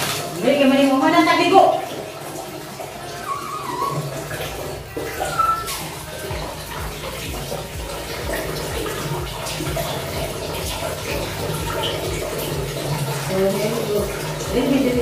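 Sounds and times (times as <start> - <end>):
water splashing and running: 0.0 - 15.0.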